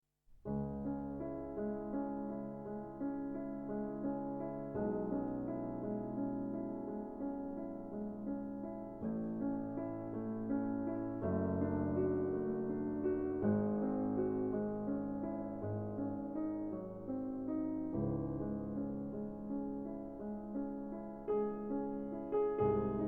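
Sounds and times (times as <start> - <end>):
piano chords: 0.5 - 23.0.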